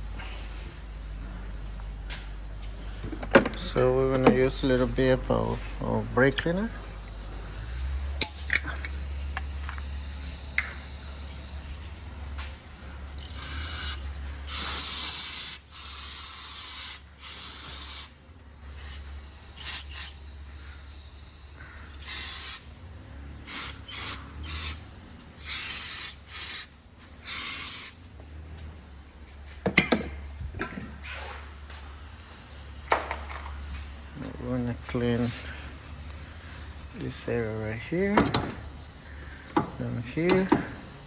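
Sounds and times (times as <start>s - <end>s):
aerosol spray hissing: 4.9s - 29.4s, 30.9s - 41.0s.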